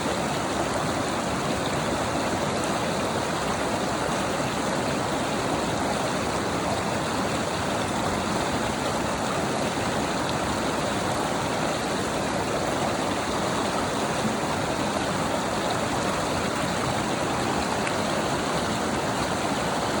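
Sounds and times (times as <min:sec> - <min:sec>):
stream running: 0:00.0 - 0:20.0.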